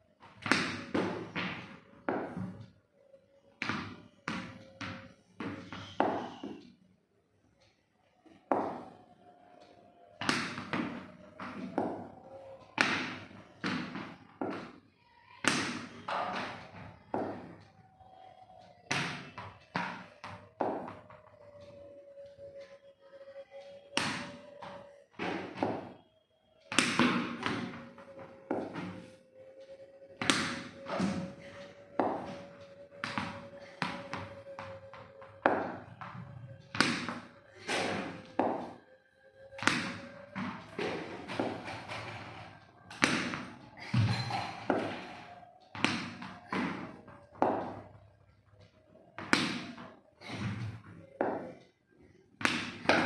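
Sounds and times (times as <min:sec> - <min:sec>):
sharp thuds echoing in a room: 0:00.4 - 0:06.7, 0:08.2 - 0:22.7, 0:23.6 - 0:26.0, 0:26.7 - 0:53.0.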